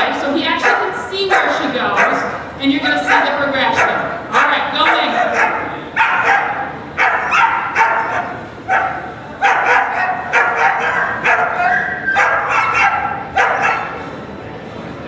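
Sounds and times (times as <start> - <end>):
puppy yelping barks: 0.6 - 14.0.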